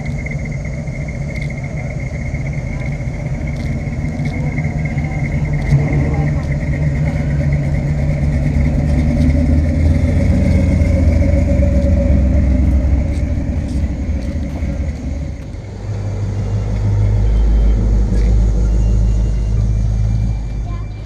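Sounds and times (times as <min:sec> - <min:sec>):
car engines driving past: 0:00.0 - 0:21.0.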